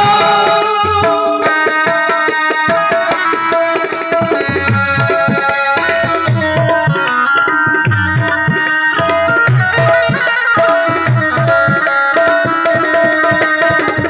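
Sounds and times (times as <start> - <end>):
tabla fast rhythm: 0.0 - 14.0.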